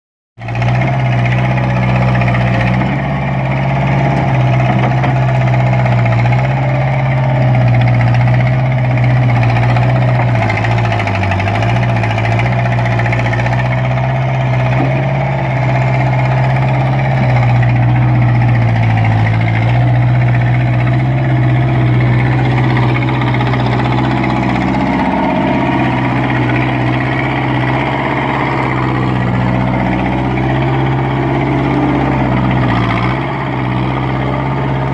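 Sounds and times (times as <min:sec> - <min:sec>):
skid steer engine humming: 0:00.4 - 0:34.9.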